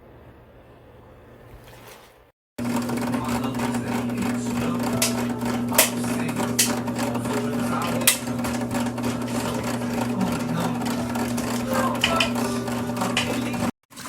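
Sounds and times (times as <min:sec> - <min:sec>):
washing machine motor hum: 0:02.6 - 0:14.0.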